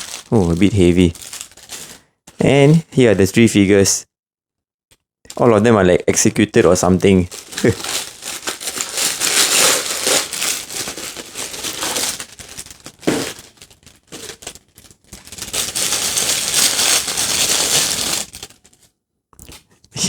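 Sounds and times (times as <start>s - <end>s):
packaging crinkling and rustling: 0.0s - 3.0s, 5.3s - 19.8s.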